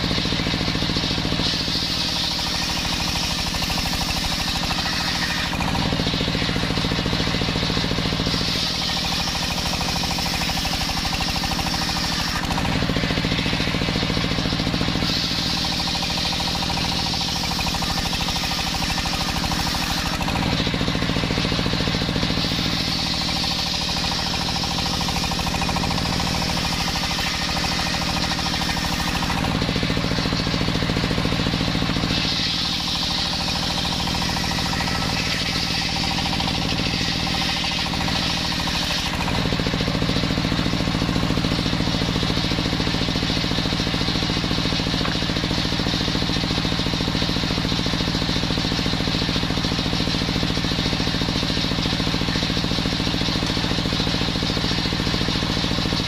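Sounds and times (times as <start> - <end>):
table saw ripping wood: 0.0 - 56.0.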